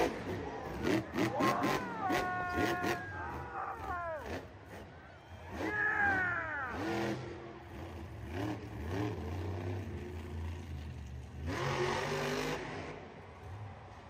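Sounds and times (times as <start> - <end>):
truck engine revving: 0.0 - 13.6.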